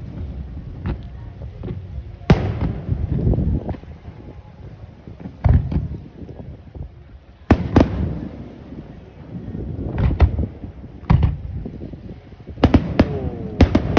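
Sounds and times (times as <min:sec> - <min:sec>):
fireworks bursting with echo: 0:00.0 - 0:06.8, 0:07.4 - 0:13.9.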